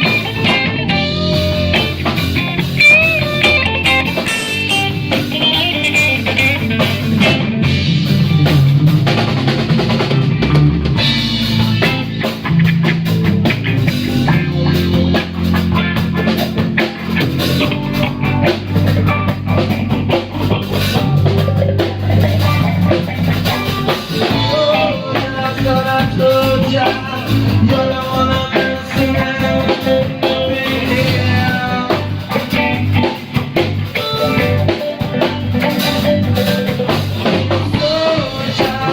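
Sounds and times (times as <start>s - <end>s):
band playing instrumental jam: 0.0s - 38.9s
drum kit beat with rimshots: 0.0s - 38.9s
guitar: 0.0s - 38.9s.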